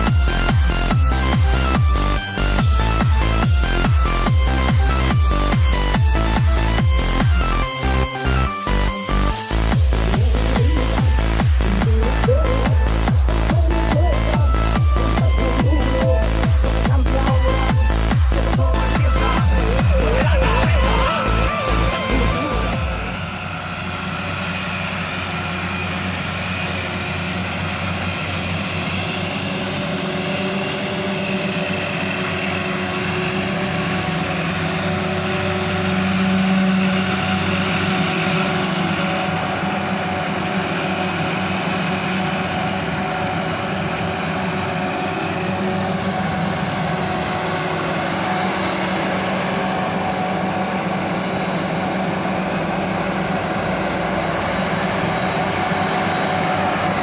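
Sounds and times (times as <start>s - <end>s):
forage harvester running: 0.0s - 57.0s.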